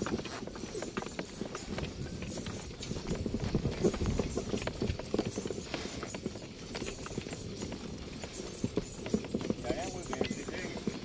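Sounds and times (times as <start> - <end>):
animal footsteps on sand: 0.0 - 11.0
cart rattling: 0.0 - 11.0.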